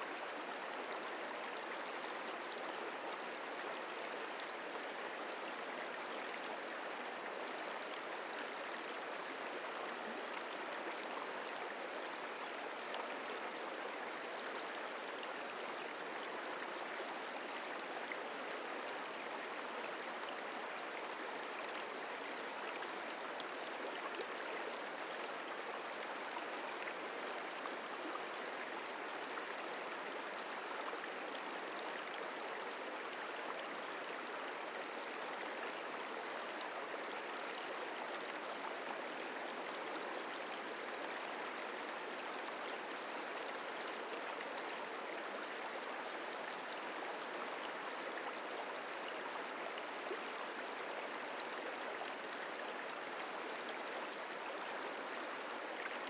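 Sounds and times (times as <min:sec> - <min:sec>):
river flowing: 0:00.0 - 0:56.0.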